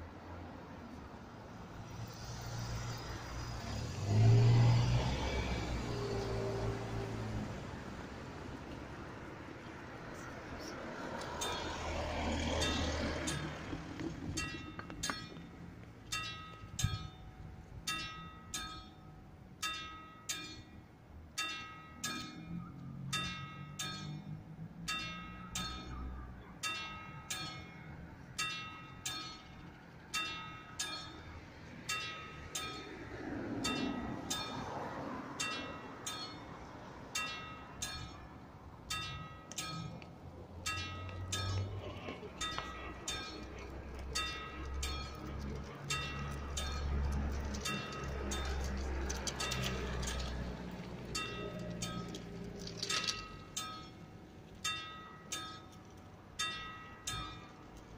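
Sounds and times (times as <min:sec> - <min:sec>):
faint passing vehicle: 0:00.0 - 0:16.2, 0:22.0 - 0:54.6.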